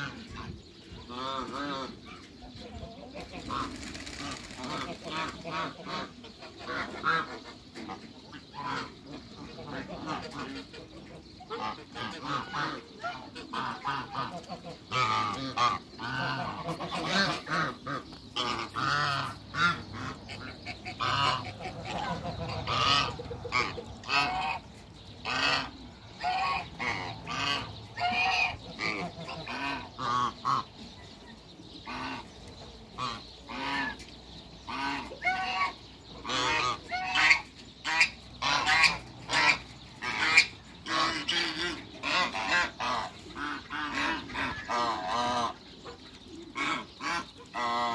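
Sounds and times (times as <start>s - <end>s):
geese honking: 0.0s - 2.3s, 3.2s - 30.9s, 33.0s - 34.0s, 34.6s - 47.9s.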